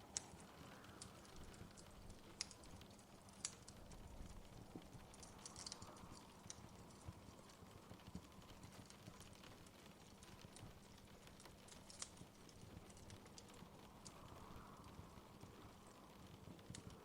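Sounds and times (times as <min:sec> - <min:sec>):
low steady hiss: 0:00.0 - 0:17.0
wood fire crackling: 0:00.0 - 0:17.0.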